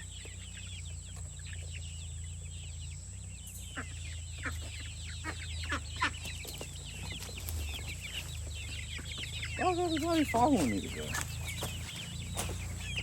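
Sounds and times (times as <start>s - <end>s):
chicken downward calls: 0.0s - 13.0s
chickens chirping: 0.0s - 13.0s.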